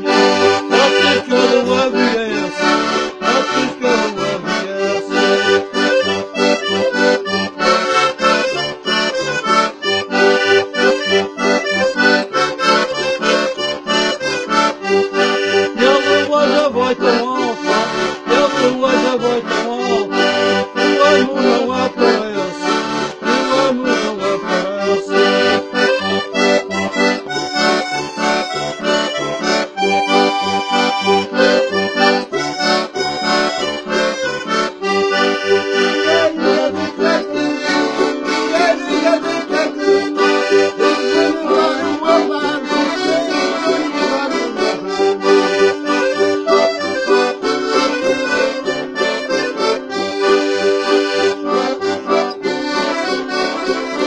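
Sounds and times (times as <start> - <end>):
button accordion playing: 0.0 - 54.0.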